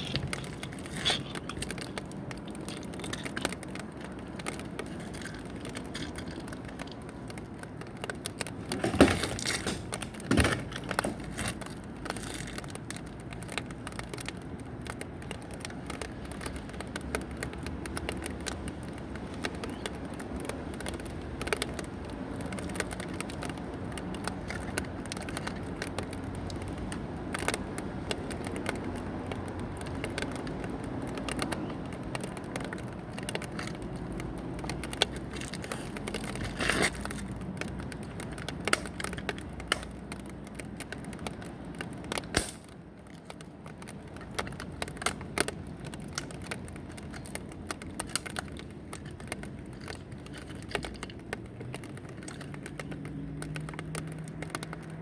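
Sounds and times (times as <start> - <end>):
handling clicks and rustling: 0.0 - 55.0.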